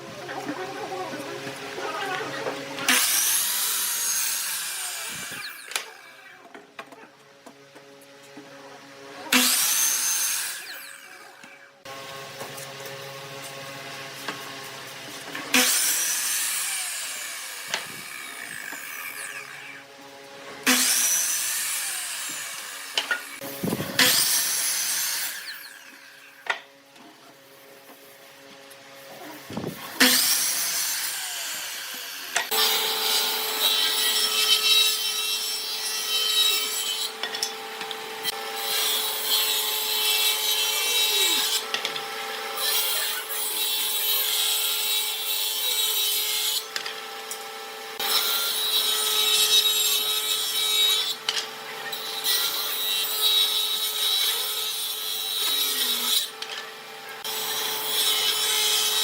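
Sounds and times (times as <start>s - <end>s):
power tool cutting wood: 0.0s - 59.0s.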